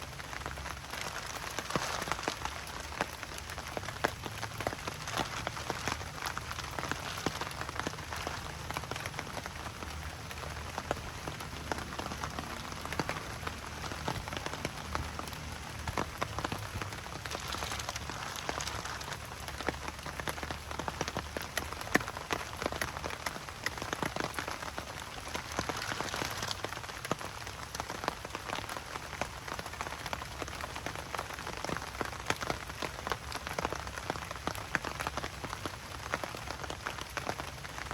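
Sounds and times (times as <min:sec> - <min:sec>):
rain drops pattering on a surface: 0:00.0 - 0:37.9.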